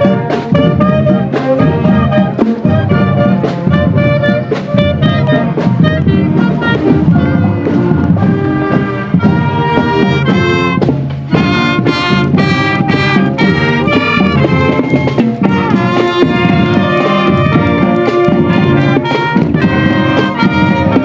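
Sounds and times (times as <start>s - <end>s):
marching drums: 0.0s - 21.0s
trumpets and trombones: 0.0s - 21.0s.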